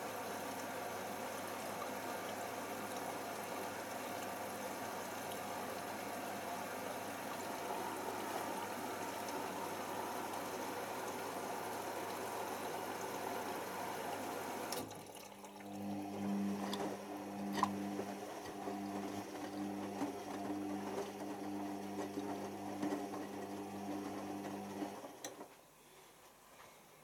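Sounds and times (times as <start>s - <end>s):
washing machine drum motor humming: 0.1s - 25.4s.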